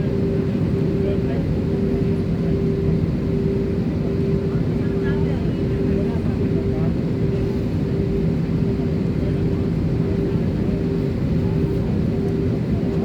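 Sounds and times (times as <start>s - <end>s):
jet airliner cabin noise: 0.0s - 13.0s.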